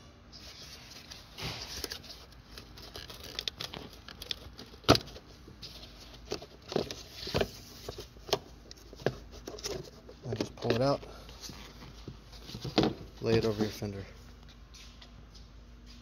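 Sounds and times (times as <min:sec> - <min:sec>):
hard plastic rubbing and rustling: 0:00.4 - 0:14.1.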